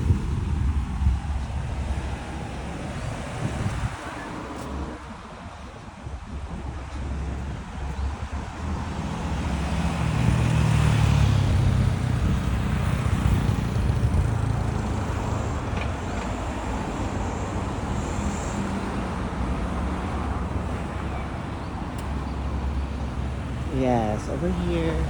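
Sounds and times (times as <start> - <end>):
steady road noise: 0.0 - 25.0
vehicle passing close by: 0.0 - 25.0.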